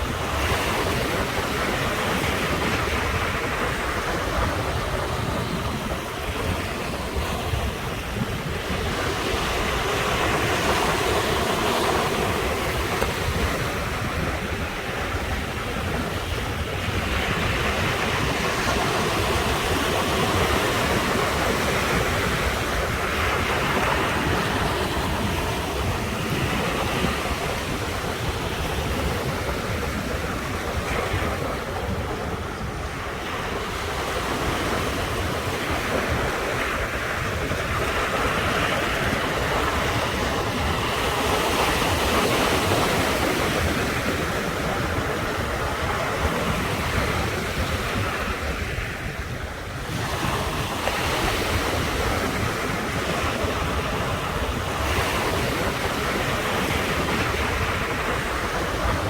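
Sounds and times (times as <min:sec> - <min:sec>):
sea waves breaking on shore: 0:00.0 - 0:59.0
wind rumble on microphone: 0:00.0 - 0:59.0.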